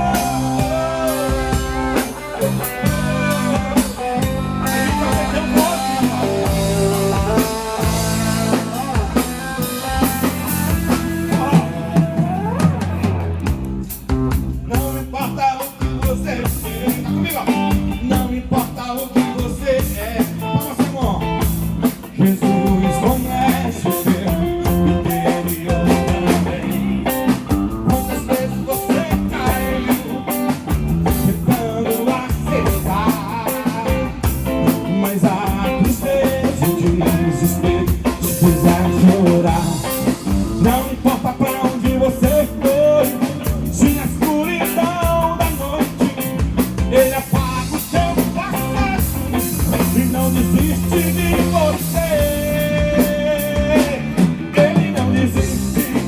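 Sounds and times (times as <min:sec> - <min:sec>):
live gospel band playing: 0:00.0 - 0:56.0.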